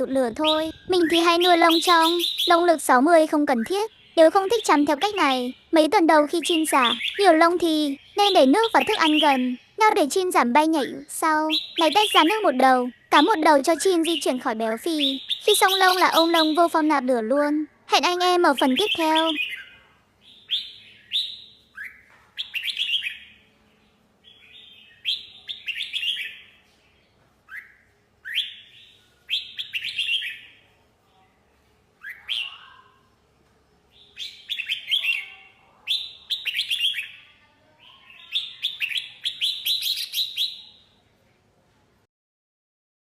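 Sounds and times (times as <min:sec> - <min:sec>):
bird singing chirpy phrases: 0:00.0 - 0:41.4.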